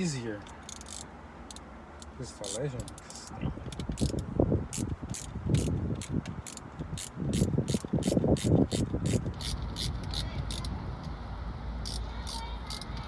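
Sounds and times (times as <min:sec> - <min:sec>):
ratchet wrench clicking: 0:00.4 - 0:10.7, 0:11.8 - 0:13.0.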